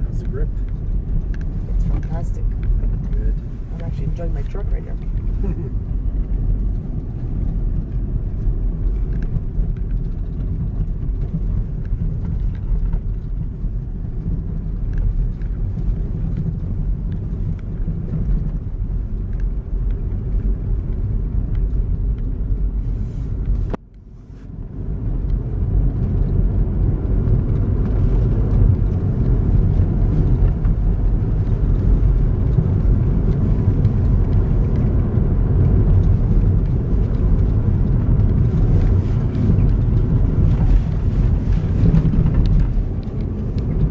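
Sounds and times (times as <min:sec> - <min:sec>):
engine and tyre rumble: 0:00.0 - 0:43.9.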